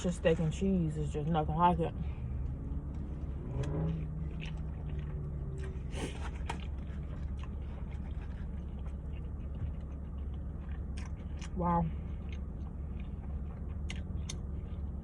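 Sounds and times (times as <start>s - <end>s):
steady low hum: 0.0s - 15.0s
person chewing sandwich: 2.4s - 15.0s.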